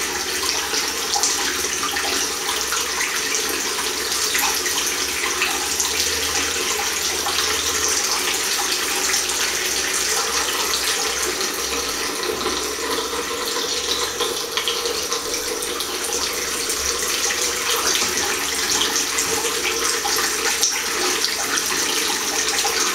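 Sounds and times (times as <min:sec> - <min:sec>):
tap water running into basin: 0:00.0 - 0:22.9.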